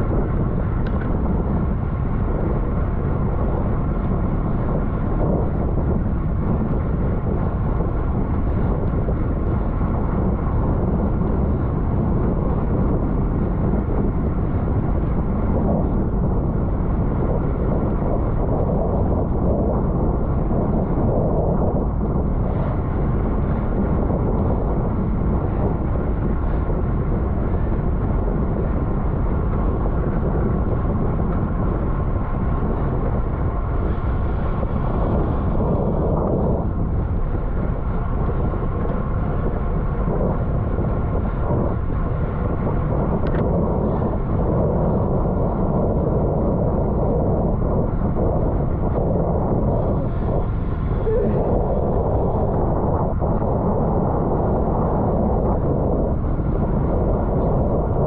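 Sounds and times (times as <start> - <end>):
road noise: 0.0 - 58.0
wind rushing on microphone: 0.0 - 58.0.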